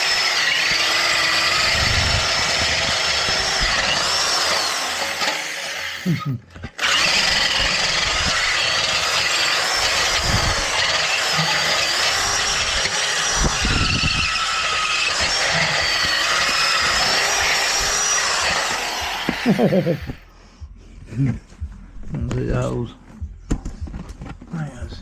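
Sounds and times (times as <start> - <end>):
power drill whining: 0.0 - 20.2.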